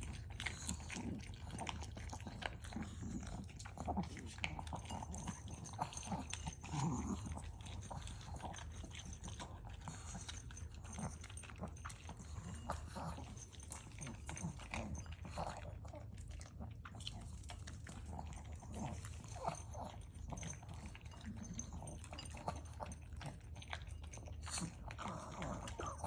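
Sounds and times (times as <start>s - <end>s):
dog crunching dry kibble: 0.0s - 26.0s.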